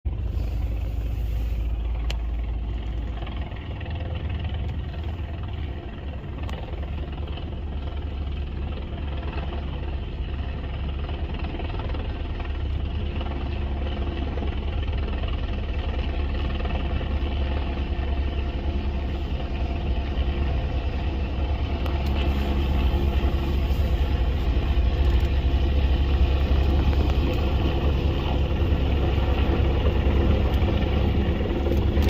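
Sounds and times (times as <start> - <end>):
helicopter engine and rotor: 0.1 - 32.0
wind rumble on microphone: 0.1 - 32.0.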